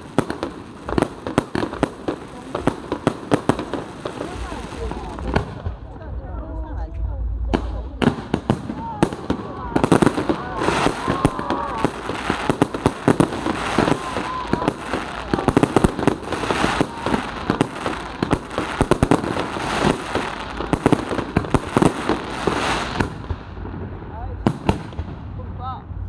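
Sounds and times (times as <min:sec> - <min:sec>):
fireworks popping and banging: 0:00.0 - 0:06.2, 0:06.9 - 0:25.9.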